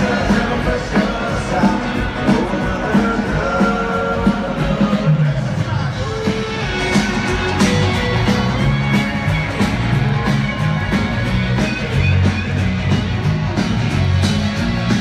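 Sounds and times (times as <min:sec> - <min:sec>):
bass: 0:00.0 - 0:15.0
drums with steady beat: 0:00.0 - 0:15.0
electric guitar lead: 0:00.0 - 0:15.0.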